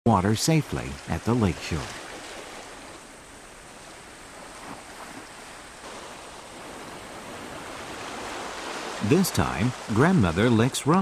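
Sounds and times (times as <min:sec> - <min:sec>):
waves washing on rocky shore: 0:00.5 - 0:11.0.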